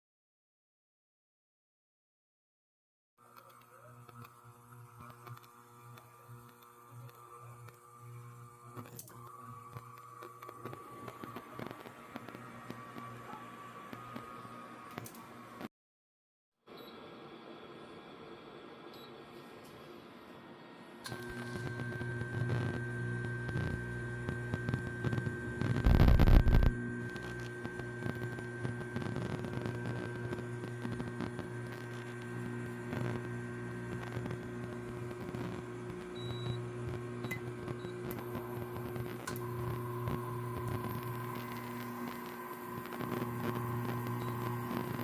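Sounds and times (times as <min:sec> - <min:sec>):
cooktop electrical hum: 0:03.2 - 0:15.7, 0:16.7 - 0:45.0.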